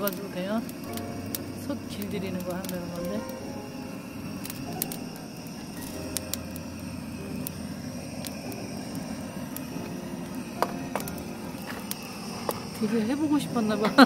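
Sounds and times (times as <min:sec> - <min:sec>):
gas torch flame hissing: 0:00.0 - 0:14.0.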